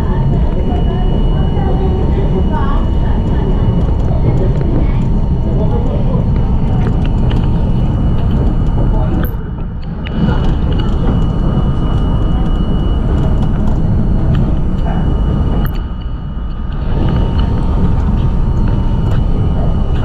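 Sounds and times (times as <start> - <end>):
steady high tone: 0.0 - 20.0
train wheels rumbling on rail: 0.0 - 20.0.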